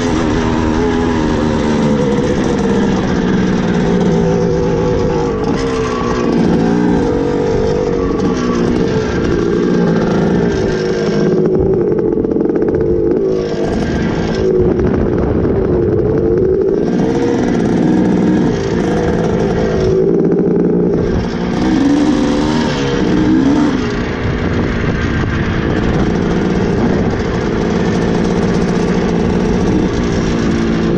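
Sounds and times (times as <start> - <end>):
two-stroke dirt bike engine: 0.0 - 30.9.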